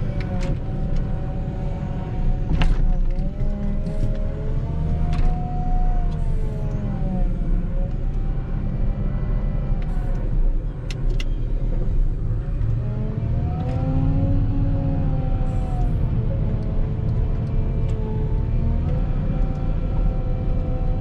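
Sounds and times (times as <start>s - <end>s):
engine whine: 0.0s - 21.0s.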